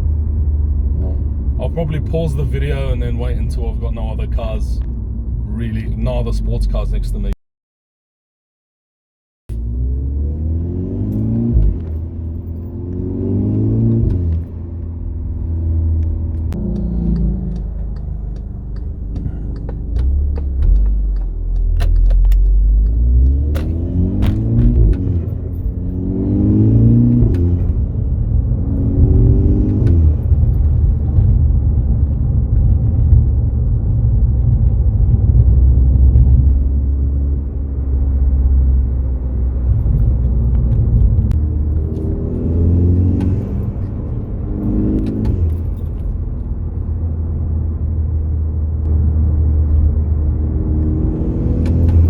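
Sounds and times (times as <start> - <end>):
car engine accelerating through gears: 9.5 - 52.0.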